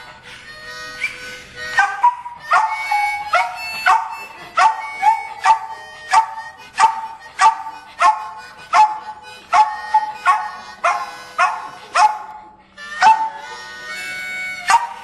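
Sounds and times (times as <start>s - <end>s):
harmonica blues chords: 0.0s - 15.0s
dog howling: 1.8s - 12.4s, 13.0s - 15.0s.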